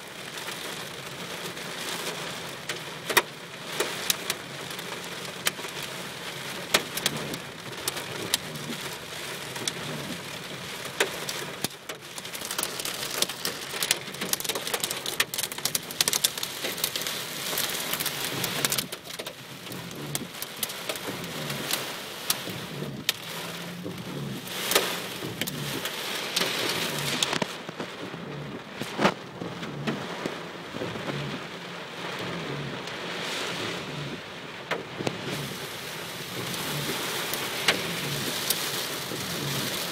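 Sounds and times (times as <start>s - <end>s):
heavy rain hiss: 0.0s - 39.9s
raindrops hitting a surface: 0.0s - 39.9s.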